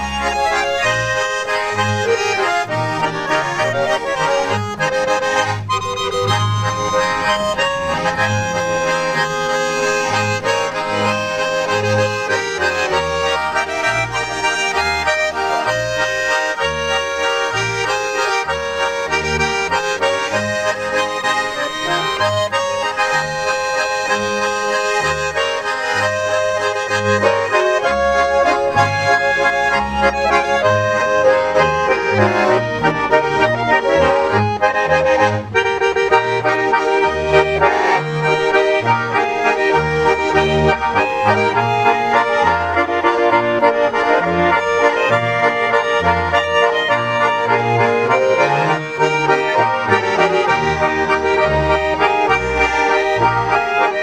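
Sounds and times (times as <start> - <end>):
folk accordion music: 0.0 - 54.0.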